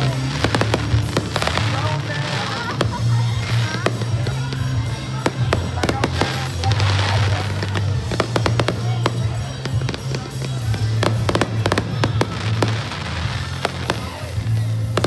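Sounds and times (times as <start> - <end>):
fireworks banging and crackling: 0.0 - 15.0
music playing: 0.0 - 15.0.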